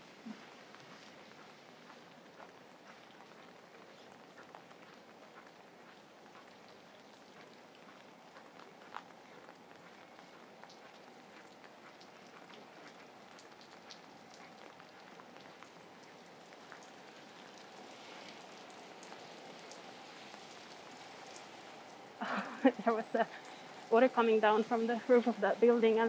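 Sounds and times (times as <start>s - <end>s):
rain falling on wet ground: 0.0s - 26.0s.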